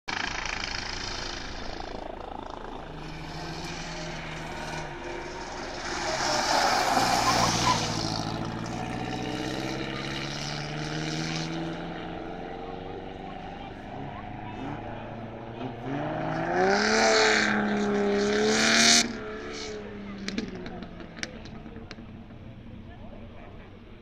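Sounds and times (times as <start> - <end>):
racing car engine: 0.1 - 24.0.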